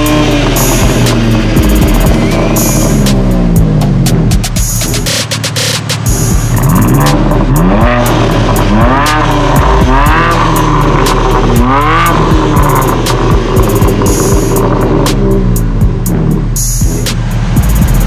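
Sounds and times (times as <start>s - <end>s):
background music with steady beat: 0.0s - 18.0s
car engine revving: 0.0s - 18.0s.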